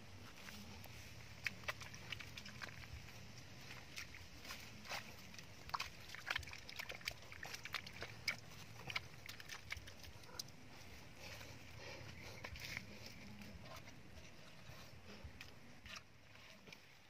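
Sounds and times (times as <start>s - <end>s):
wet mud squelching: 0.0s - 17.0s.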